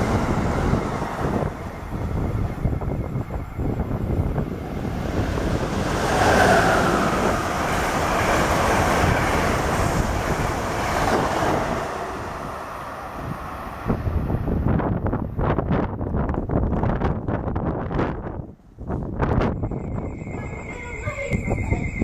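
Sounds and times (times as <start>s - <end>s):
train passing at speed: 0.0s - 22.0s
wind buffeting microphone: 0.0s - 22.0s.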